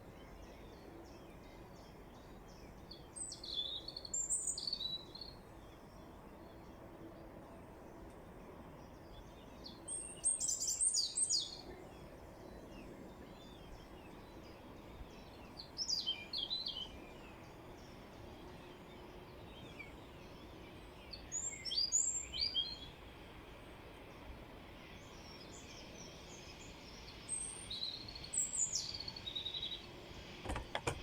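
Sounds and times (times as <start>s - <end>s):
songbird chirping: 0.0s - 31.0s
steady background hiss: 0.0s - 31.0s.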